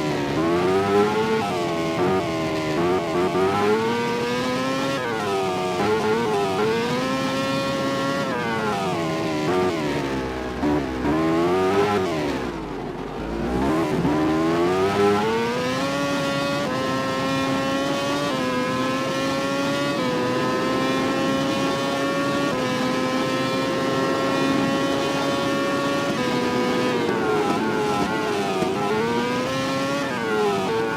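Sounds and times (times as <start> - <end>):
racing motorcycle engine revving: 0.0 - 30.9.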